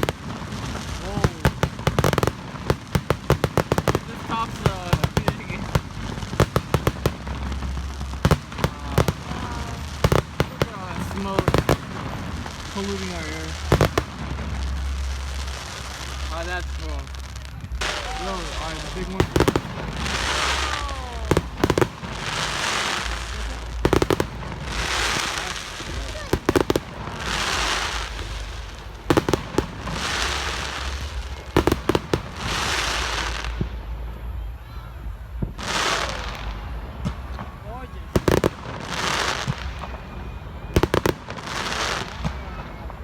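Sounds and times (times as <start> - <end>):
crackling hiss: 0.0 - 43.0
firework bangs: 0.0 - 43.0.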